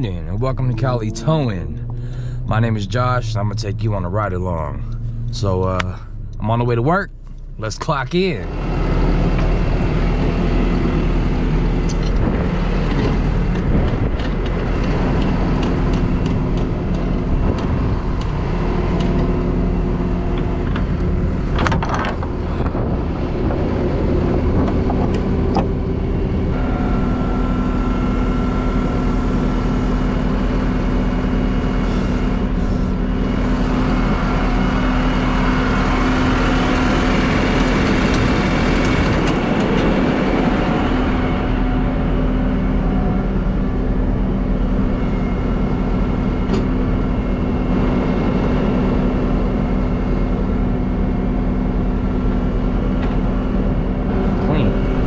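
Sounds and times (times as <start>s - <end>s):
steady high whine: 0.0s - 55.0s
truck engine idling: 0.0s - 55.0s.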